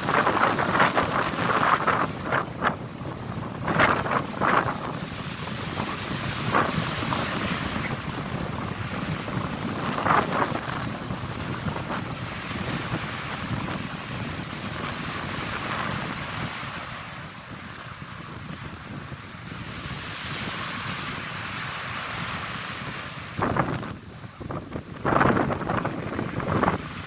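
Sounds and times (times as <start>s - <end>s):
small waves breaking on sand: 0.0s - 27.0s
wind on microphone: 0.0s - 27.0s.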